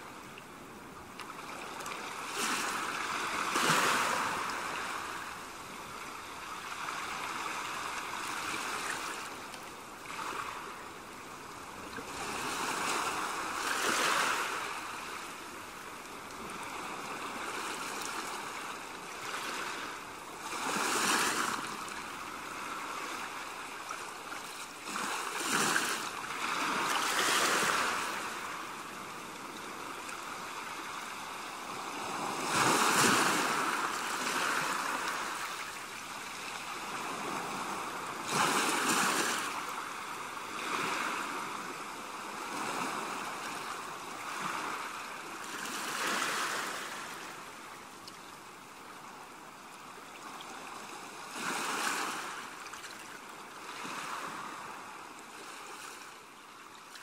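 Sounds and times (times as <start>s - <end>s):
small waves washing ashore: 0.0s - 57.0s.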